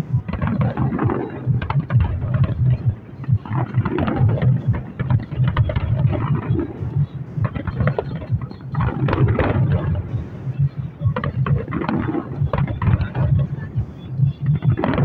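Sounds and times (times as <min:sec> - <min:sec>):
fireworks booming and crackling: 0:00.0 - 0:15.0
low rumble: 0:00.0 - 0:15.0.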